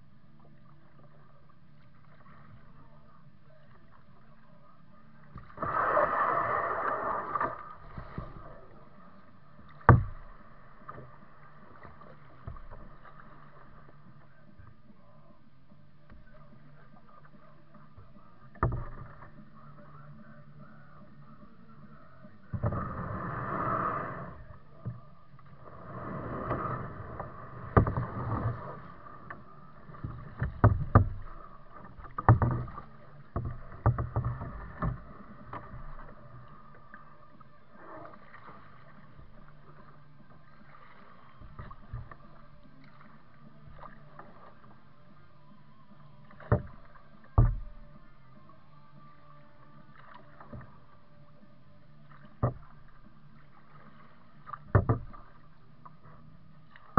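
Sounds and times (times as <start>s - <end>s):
gentle water sounds: 0.0s - 56.9s
paddle splashing in water: 0.0s - 56.9s.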